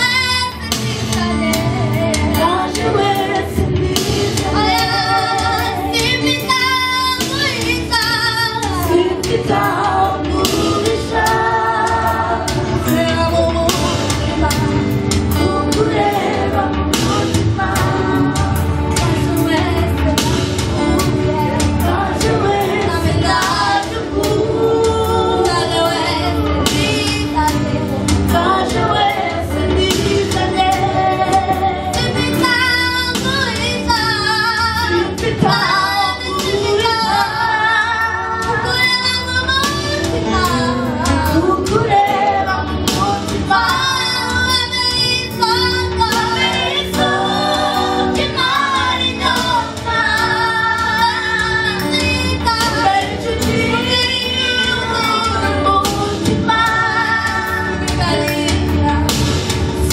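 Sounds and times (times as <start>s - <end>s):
girls singing into microphones: 0.0s - 59.9s
gospel choir singing: 0.0s - 59.9s.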